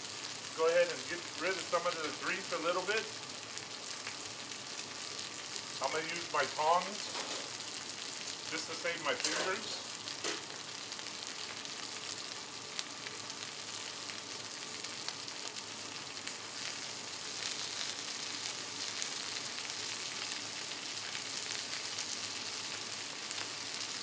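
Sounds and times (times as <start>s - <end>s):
meat frying on a griddle: 0.0s - 24.0s.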